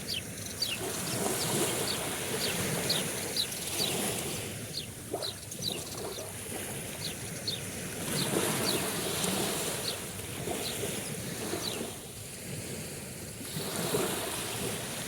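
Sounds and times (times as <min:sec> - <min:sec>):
sea waves washing: 0:00.0 - 0:15.0.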